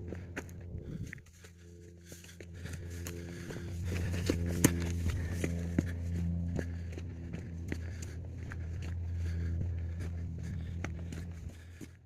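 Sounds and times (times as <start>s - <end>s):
low rumble: 0.0s - 11.8s
running footsteps on dirt: 0.0s - 12.0s.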